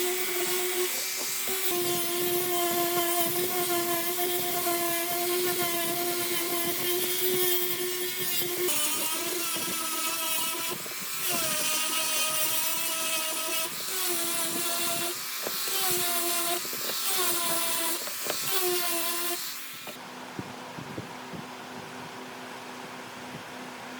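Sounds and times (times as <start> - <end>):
power carving tool whining on wood: 0.0 - 20.0.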